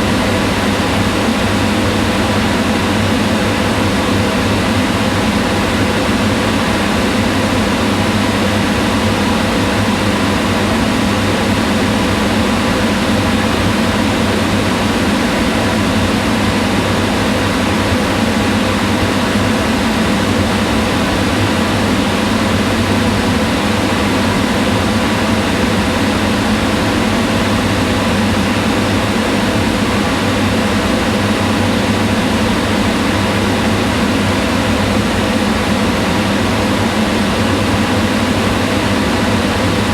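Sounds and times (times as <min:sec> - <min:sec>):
exhaust fan running: 0:00.0 - 0:39.9.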